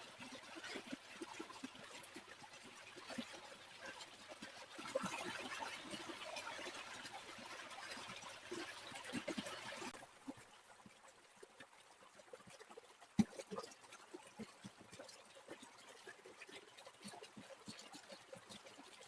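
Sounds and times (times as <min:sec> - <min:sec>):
small stream babbling: 0:00.0 - 0:19.0.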